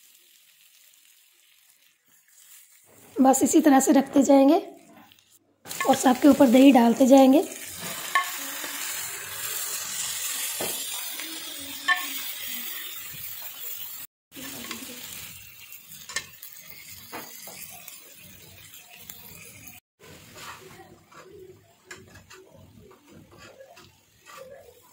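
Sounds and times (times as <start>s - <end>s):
chicken sizzling on a griddle: 0.0s - 3.1s, 5.1s - 24.9s.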